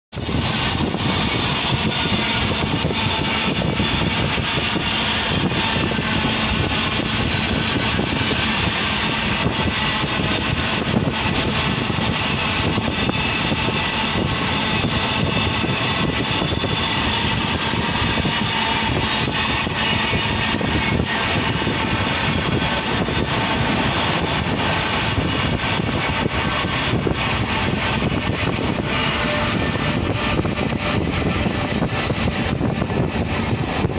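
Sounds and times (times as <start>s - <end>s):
train wheels rumbling on rails: 0.1s - 33.9s
wind rushing: 0.1s - 33.9s.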